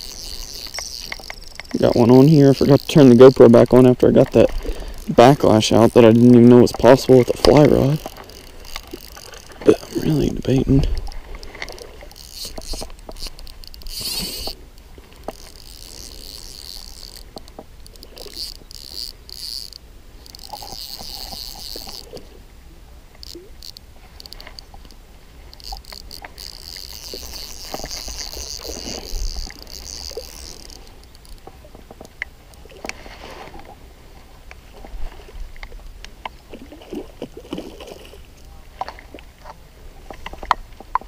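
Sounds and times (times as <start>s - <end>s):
fly reel clicking: 0.0s - 22.4s, 23.1s - 33.6s.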